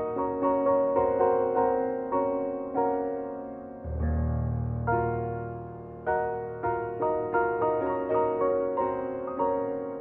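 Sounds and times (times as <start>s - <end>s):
piano chords ringing: 0.0s - 10.0s.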